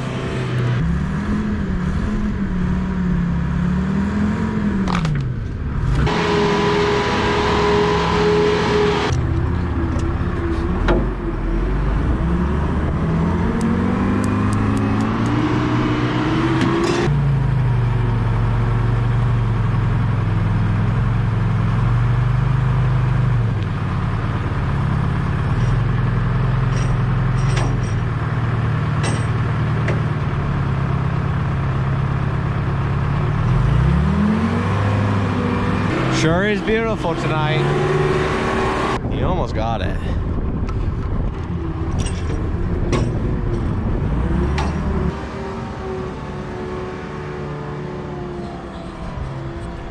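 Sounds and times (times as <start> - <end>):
wheel loader engine revving: 0.0 - 39.1, 40.6 - 49.9.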